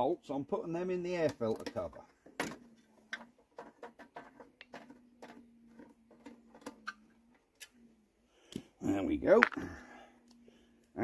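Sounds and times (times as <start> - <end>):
faint steady hum: 2.0 - 11.0.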